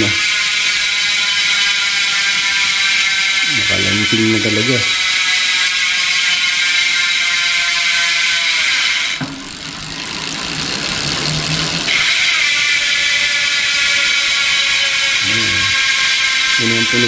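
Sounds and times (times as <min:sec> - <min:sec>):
freewheel hub clicking buzz: 0:00.0 - 0:17.0.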